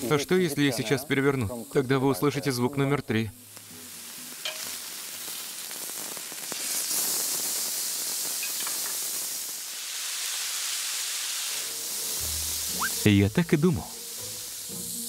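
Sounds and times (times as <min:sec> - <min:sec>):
meat sizzling on grill pan: 0:00.0 - 0:15.0.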